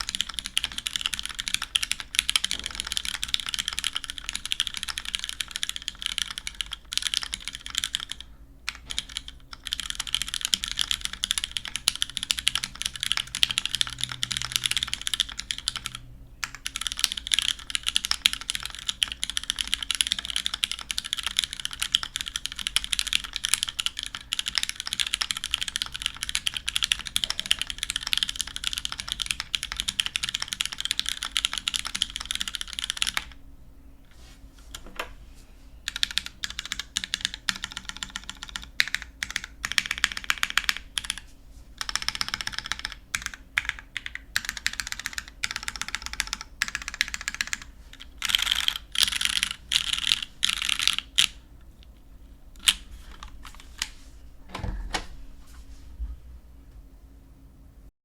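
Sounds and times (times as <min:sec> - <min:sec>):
mechanical keyboard typing: 0:00.0 - 0:33.4, 0:35.9 - 0:51.4, 0:52.6 - 0:53.9.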